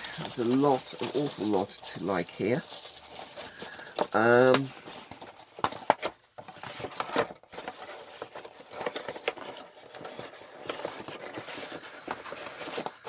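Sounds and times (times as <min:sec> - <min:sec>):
cardboard box rustling and scraping: 0:00.0 - 0:13.0.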